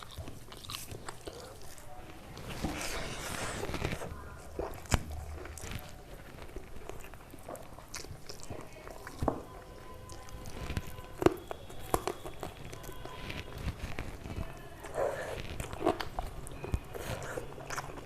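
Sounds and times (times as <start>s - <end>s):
person chewing food: 0.0s - 18.0s
small crunches and clicks: 2.4s - 9.5s, 10.1s - 18.0s.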